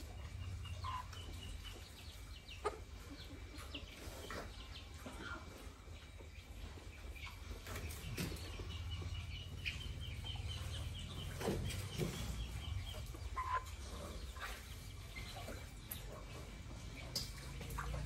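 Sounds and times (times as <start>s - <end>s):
chickens clucking: 0.0s - 18.0s
chicks chirping: 0.0s - 18.0s.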